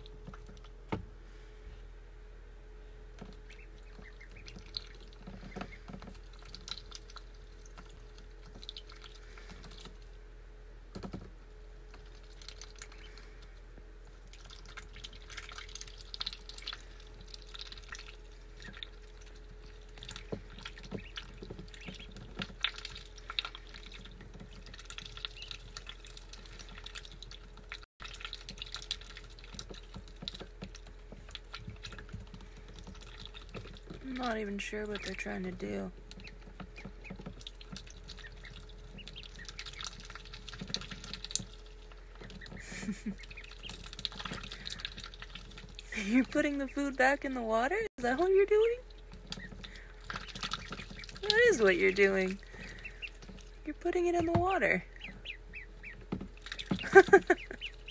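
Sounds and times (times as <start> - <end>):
ducklings splashing and slurping: 0.0 - 1.6, 3.1 - 57.9.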